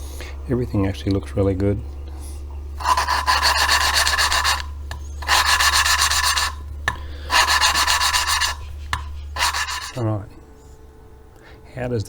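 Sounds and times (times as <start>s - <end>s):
valve lapping gritty rasp: 0.0s - 10.0s.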